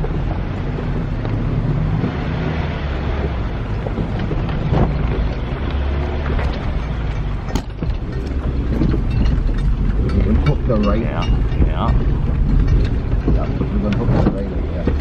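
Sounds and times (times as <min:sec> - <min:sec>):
engine and tyre rumble: 0:00.0 - 0:15.0
wind buffeting microphone: 0:00.0 - 0:15.0.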